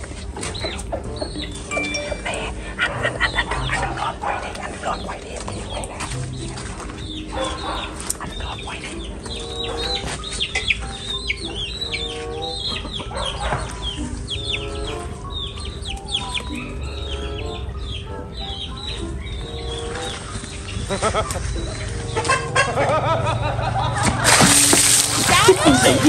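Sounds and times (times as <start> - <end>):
chickens clucking: 0.0 - 26.0
quiet background music: 0.0 - 26.0.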